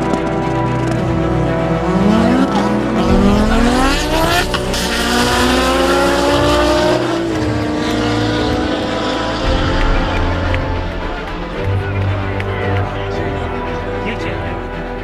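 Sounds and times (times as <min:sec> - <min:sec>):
drag car engine at full throttle: 0:00.0 - 0:13.2.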